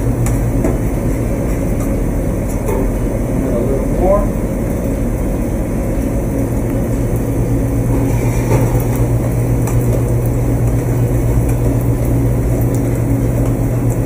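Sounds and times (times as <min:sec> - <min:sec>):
exhaust hood fan hum: 0:00.0 - 0:14.0.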